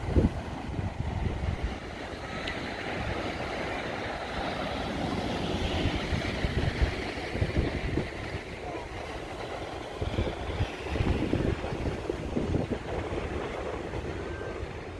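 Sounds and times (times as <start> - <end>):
small waves washing onto beach: 0.0 - 14.9
wind buffeting microphone: 0.0 - 14.9.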